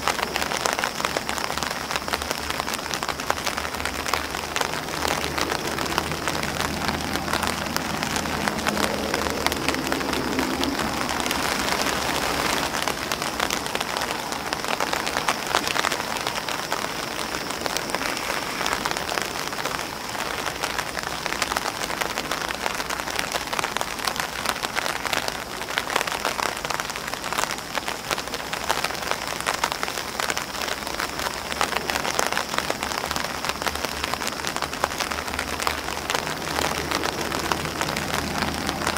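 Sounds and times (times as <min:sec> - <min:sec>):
rain on umbrella and grass: 0:00.0 - 0:38.9.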